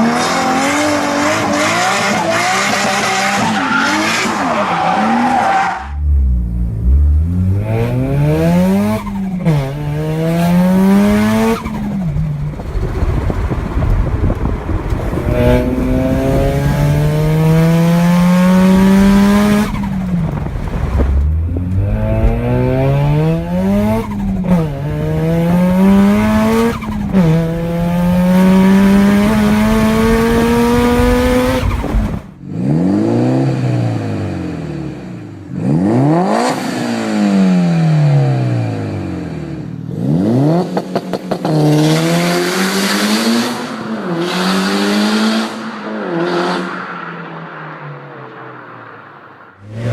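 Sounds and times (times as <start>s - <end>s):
other engine revving: 0.0s - 46.8s
car engine accelerating hard: 0.0s - 48.8s.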